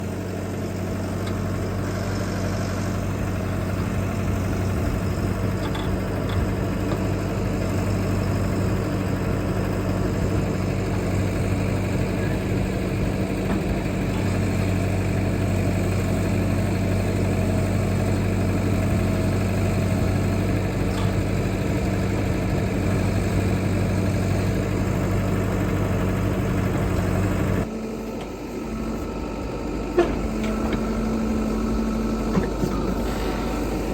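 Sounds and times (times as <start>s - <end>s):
backhoe diesel engine running: 0.0s - 33.9s.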